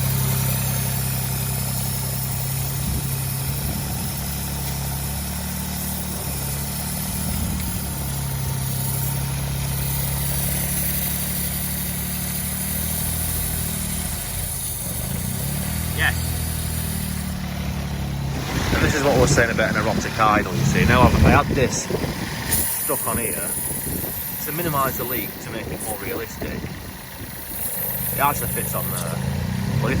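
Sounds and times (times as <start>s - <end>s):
car engine idling unevenly: 0.0s - 30.0s.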